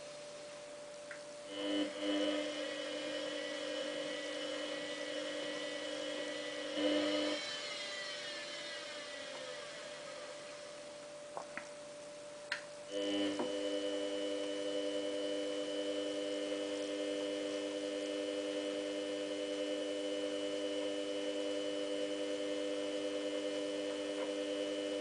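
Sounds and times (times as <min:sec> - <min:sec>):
washing machine motor whine: 0:00.0 - 0:25.0.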